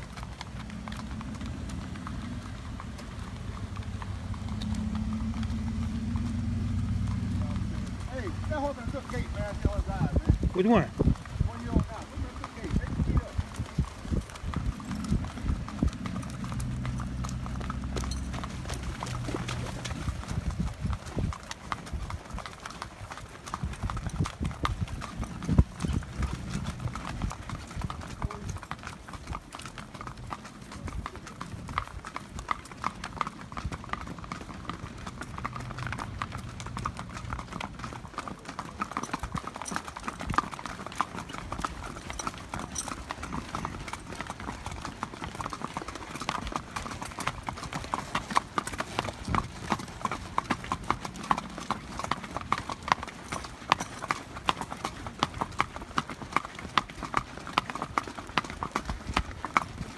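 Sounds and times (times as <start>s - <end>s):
horse hooves clip-clopping on asphalt: 0.0s - 59.9s.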